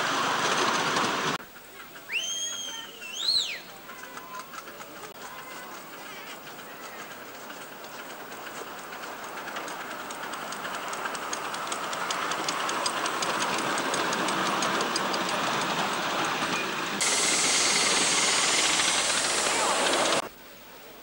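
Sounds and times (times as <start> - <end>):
train wheels clicking over rail joints: 0.0 - 1.4, 3.1 - 20.2.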